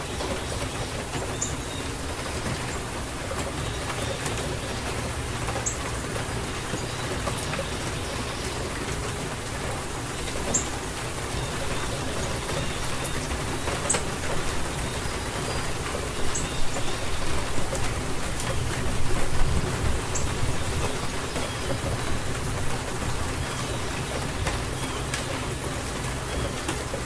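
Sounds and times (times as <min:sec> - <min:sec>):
raindrops splattering close by: 0:00.0 - 0:27.0
steady rain hissing: 0:00.0 - 0:27.0.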